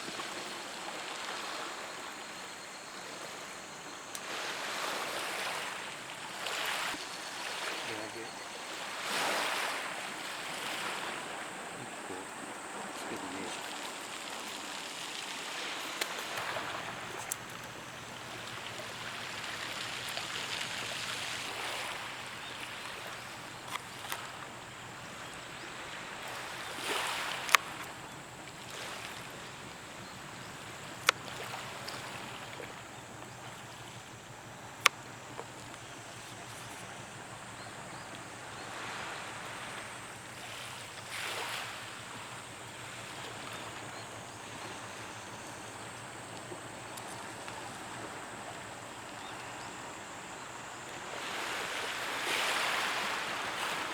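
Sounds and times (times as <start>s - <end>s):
small waves washing onto beach: 0.0s - 53.9s.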